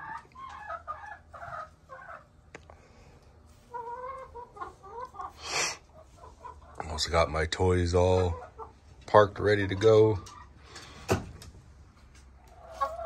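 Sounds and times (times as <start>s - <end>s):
chickens clucking softly: 0.0s - 2.6s, 3.2s - 10.6s, 12.0s - 13.0s.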